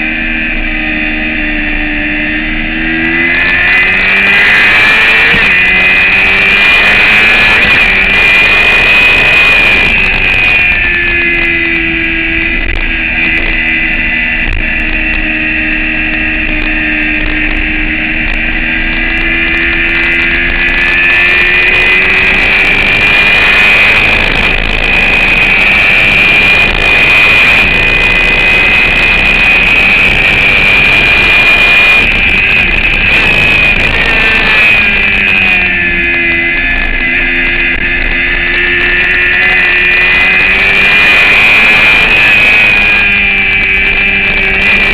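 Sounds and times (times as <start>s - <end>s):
motorcycle engine running hard: 0.0s - 44.9s
steady high whine: 0.0s - 44.9s
rushing noise: 2.7s - 44.9s.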